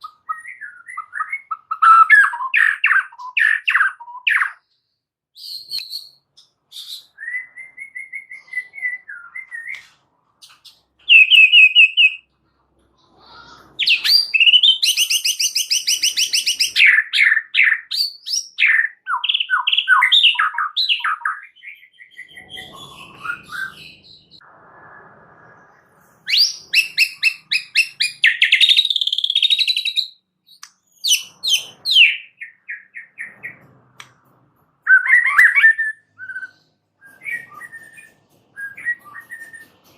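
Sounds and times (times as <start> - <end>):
bird singing whistles and trills: 0.0 - 4.7, 5.4 - 9.8, 11.1 - 12.3, 13.8 - 25.1, 26.2 - 33.6, 34.8 - 39.8.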